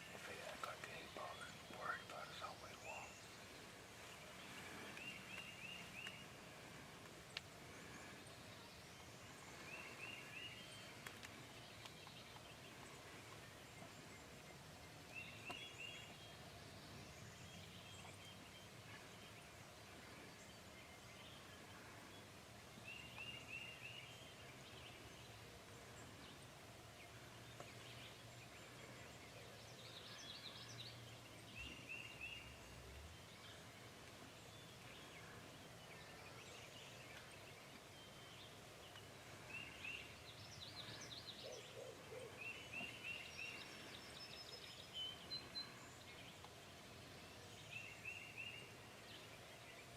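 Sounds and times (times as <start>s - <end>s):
faint bird calls: 0.0s - 16.5s, 17.4s - 46.6s
faint low hum: 0.0s - 49.9s.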